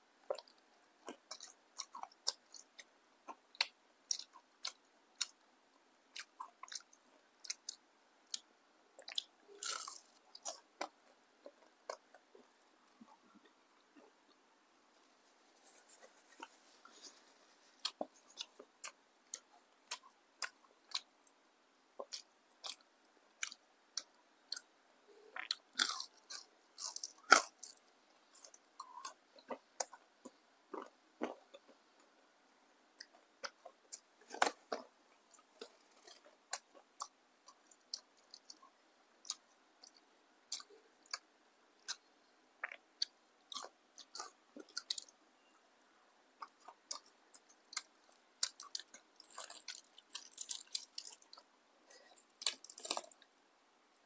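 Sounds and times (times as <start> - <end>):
crunchy chewing: 0.3 - 5.4, 6.1 - 14.4, 15.0 - 21.4, 22.0 - 31.8, 33.0 - 45.2, 46.4 - 53.3.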